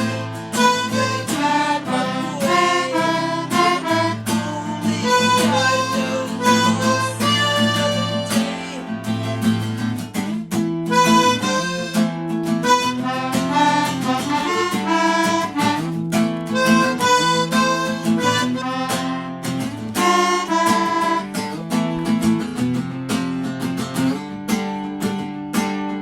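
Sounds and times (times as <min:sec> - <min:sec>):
harmonica melody: 0:00.0 - 0:10.0, 0:10.8 - 0:22.1
strummed acoustic guitar: 0:00.0 - 0:26.0.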